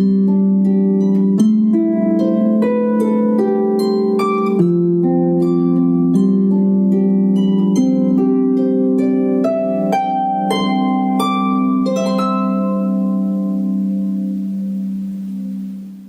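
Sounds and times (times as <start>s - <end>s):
gentle harp music: 0.0s - 16.0s.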